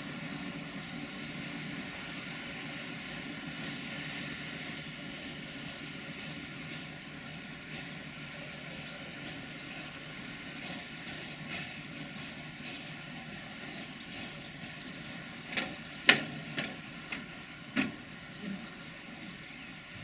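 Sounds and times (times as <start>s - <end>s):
diesel train engines running: 0.0s - 20.0s.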